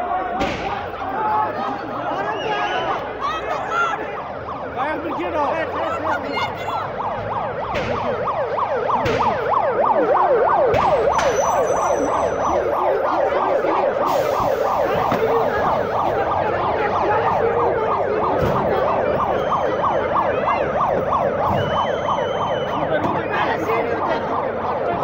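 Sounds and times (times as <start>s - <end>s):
emergency sirens yelping: 0.0s - 25.0s.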